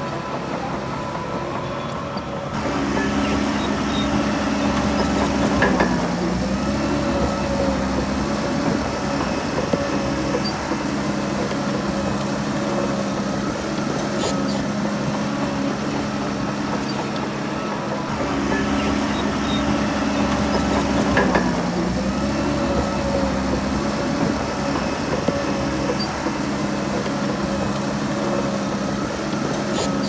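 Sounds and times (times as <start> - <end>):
diesel engine of earthmoving machine: 0.0 - 30.0.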